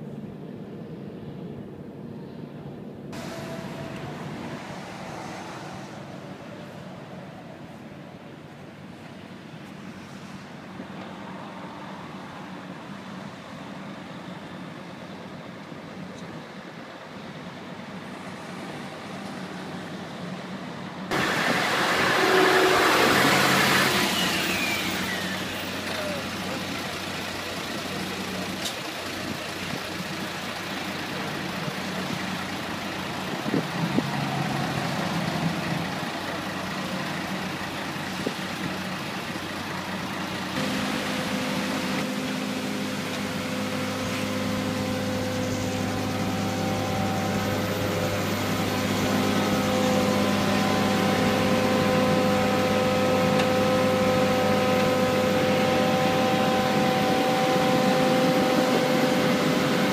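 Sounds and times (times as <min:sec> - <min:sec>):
diesel engines of machinery running: 0:00.0 - 0:59.9
paver engine humming close by: 0:00.0 - 0:59.9.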